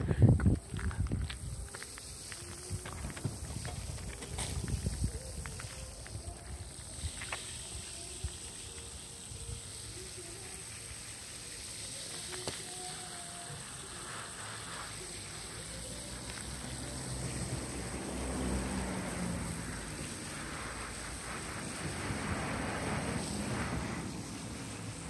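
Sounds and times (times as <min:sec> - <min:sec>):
hose nozzle spraying water: 0:00.4 - 0:25.0.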